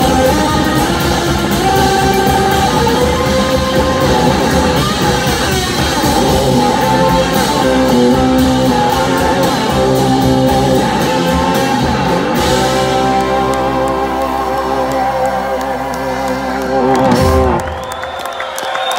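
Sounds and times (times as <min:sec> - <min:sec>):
live rock band playing: 0:00.0 - 0:18.9.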